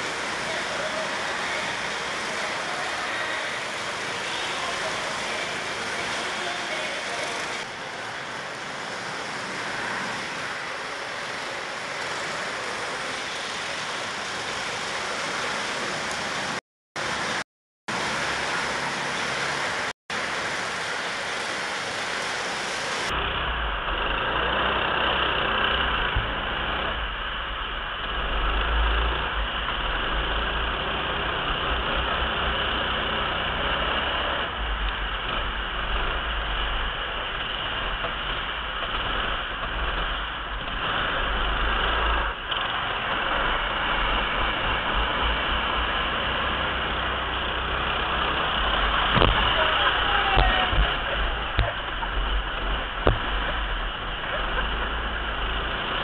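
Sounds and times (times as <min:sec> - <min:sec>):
kart engines running: 0:00.0 - 0:56.0.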